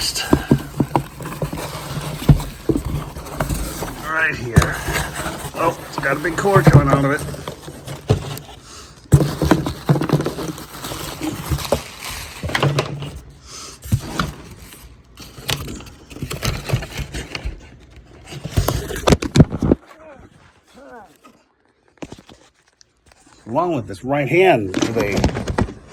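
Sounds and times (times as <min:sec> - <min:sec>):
packaging scraping and rustling: 0:00.0 - 0:23.4, 0:24.6 - 0:25.9.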